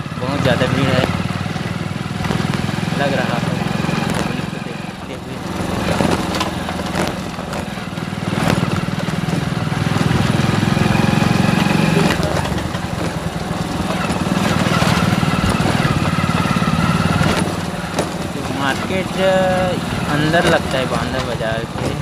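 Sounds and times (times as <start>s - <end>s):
small motorbike engine running: 0.0s - 22.0s.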